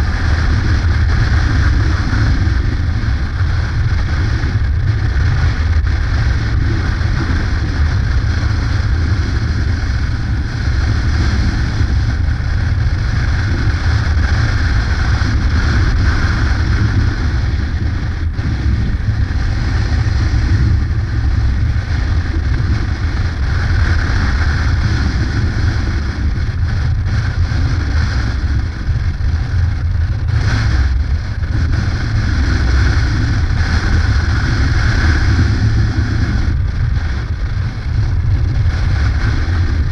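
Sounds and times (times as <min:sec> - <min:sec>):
motorcycle engine rumble: 0:00.0 - 0:39.9
wind noise on microphone: 0:00.0 - 0:39.9.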